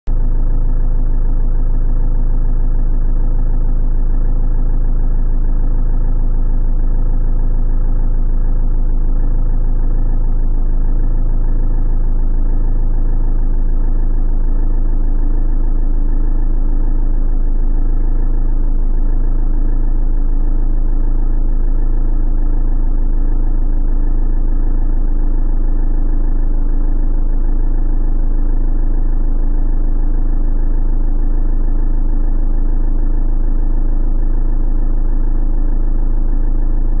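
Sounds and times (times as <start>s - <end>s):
van engine idling: 0.1s - 37.0s.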